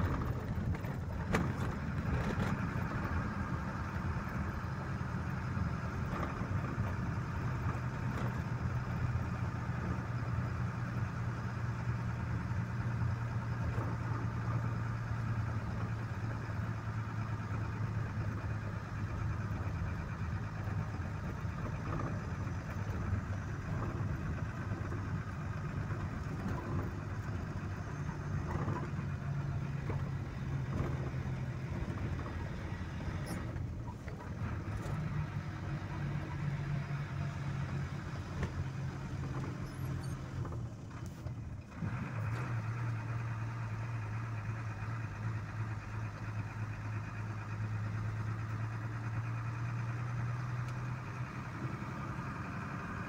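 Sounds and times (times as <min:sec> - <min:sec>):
road noise: 0:00.0 - 0:53.0
vehicle engine running: 0:00.0 - 0:53.0.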